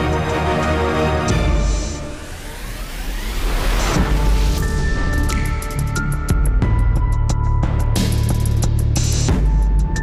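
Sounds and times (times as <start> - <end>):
background music with held notes: 0.0 - 2.9, 4.0 - 10.0.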